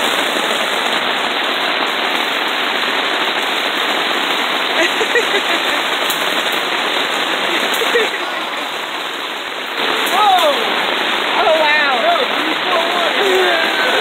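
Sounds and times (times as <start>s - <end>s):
heavy rain on a tarp: 0.0s - 14.0s.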